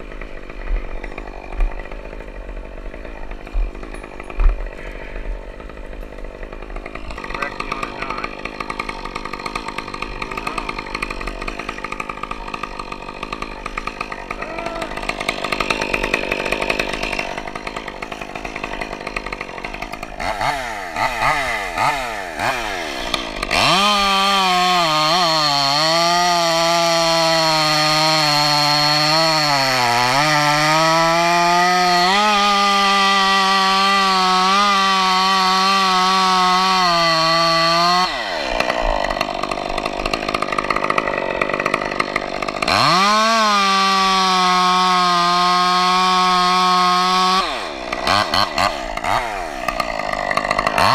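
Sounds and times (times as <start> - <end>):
chainsaw revving and cutting: 0.0 - 50.9.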